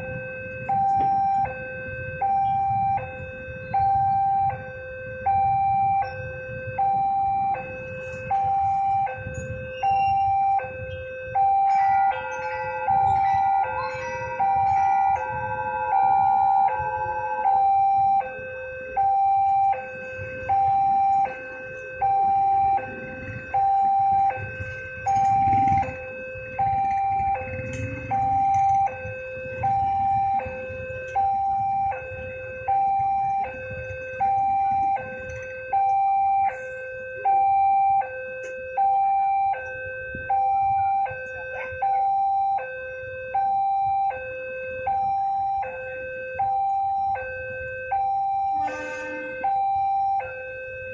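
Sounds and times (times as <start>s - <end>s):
motorcycle engines idling: 0.0s - 50.9s
railroad crossing two-tone alarm: 0.0s - 50.9s.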